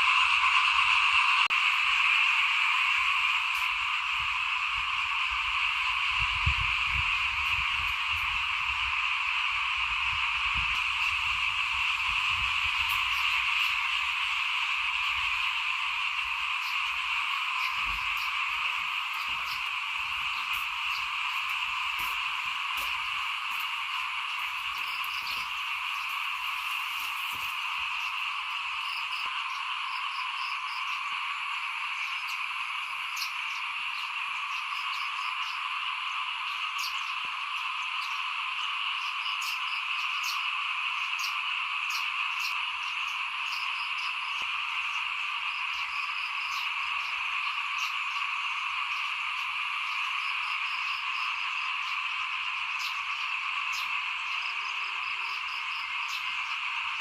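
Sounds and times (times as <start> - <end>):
frogs chorus: 0.0 - 57.0
higher-pitched frog calls: 0.0 - 57.0.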